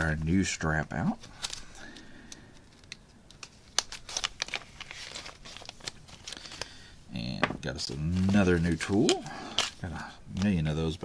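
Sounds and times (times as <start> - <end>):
plastic bag crinkling: 0.9 - 11.0.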